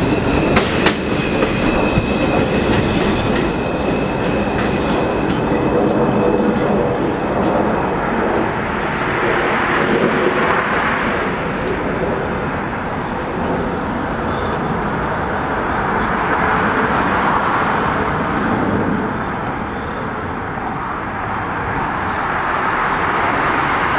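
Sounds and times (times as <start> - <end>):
expressway traffic hum: 0.0 - 23.9
subway train on elevated tracks: 0.0 - 23.9.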